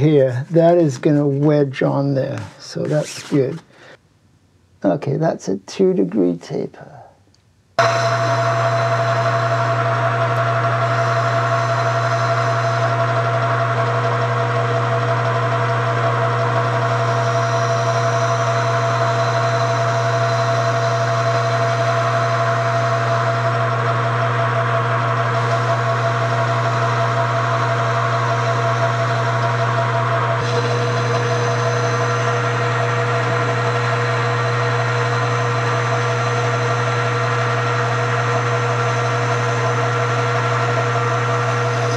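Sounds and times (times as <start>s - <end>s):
metal lathe running: 7.8s - 41.9s
whining tones: 7.8s - 41.9s.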